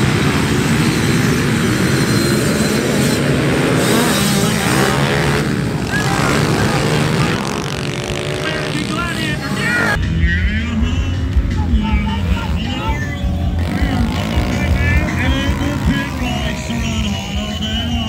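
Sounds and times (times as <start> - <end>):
small motorbike engines revving: 0.0 - 10.0, 10.8 - 18.0.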